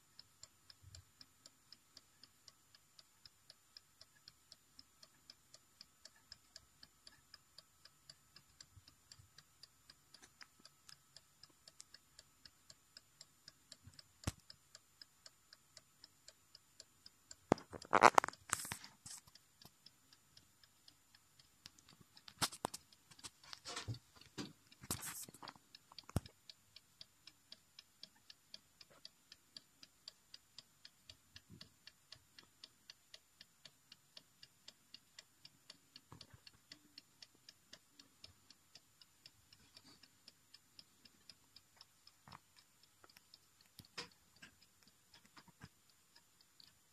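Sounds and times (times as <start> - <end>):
clock ticking faintly: 0.0 - 46.9.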